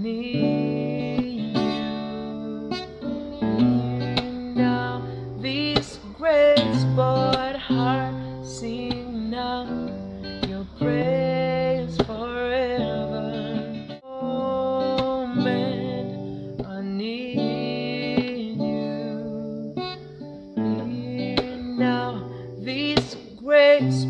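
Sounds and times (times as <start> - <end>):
man singing with vibrato: 0.0 - 19.8, 20.6 - 24.0
acoustic guitar strumming: 0.0 - 24.0.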